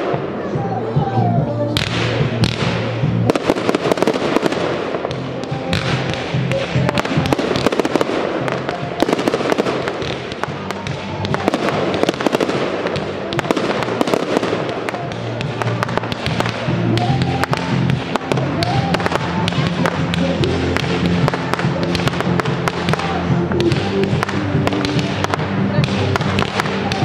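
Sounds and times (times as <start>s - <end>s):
fireworks popping and crackling: 0.0s - 27.0s
music playing: 0.0s - 27.0s.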